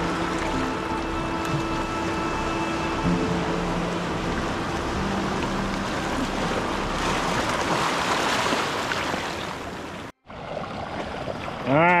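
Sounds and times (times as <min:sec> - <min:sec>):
beach surf washing: 0:00.0 - 0:10.1.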